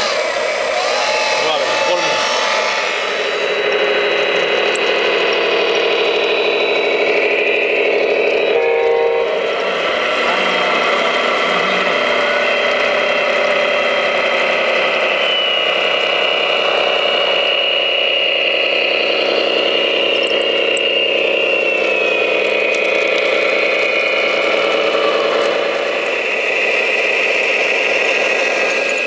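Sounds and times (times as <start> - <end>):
model truck motor humming and whining: 0.0 - 29.0.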